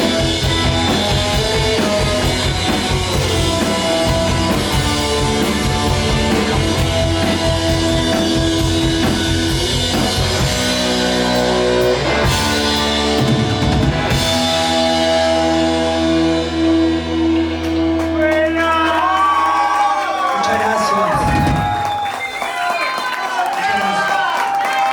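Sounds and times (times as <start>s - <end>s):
drum kit: 0.0s - 19.4s, 21.0s - 22.2s
electric guitars: 0.0s - 22.0s.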